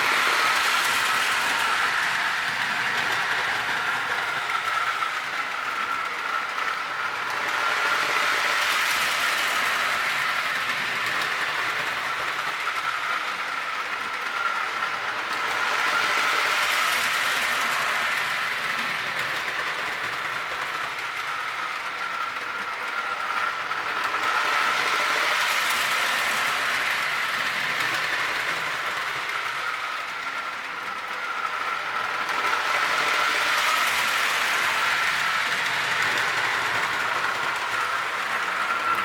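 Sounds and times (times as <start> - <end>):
toy train motor whine: 0.0 - 39.0
wheels clattering on rails: 0.0 - 39.0.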